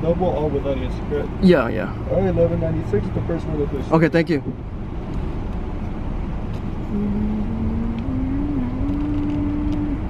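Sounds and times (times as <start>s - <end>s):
car engine: 0.0s - 10.0s
road rumble: 0.0s - 10.0s.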